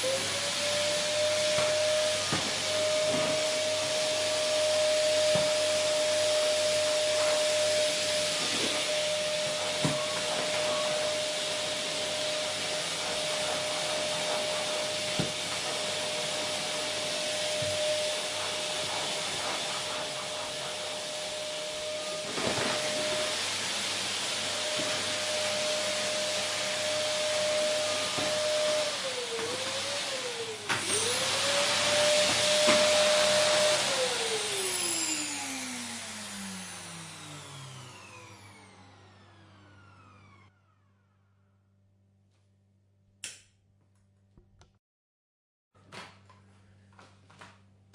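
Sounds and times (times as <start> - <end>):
vacuum cleaner running: 0.0 - 41.5.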